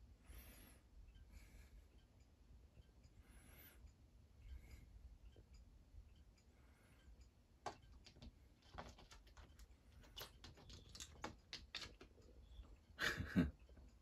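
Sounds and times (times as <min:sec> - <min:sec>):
small clicks and ticks: 0:01.1 - 0:14.0.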